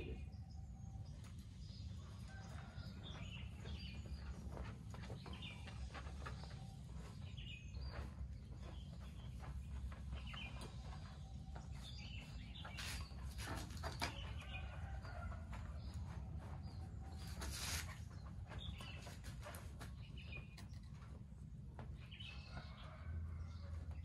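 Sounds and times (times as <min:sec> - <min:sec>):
small birds chirping: 0:00.0 - 0:21.2.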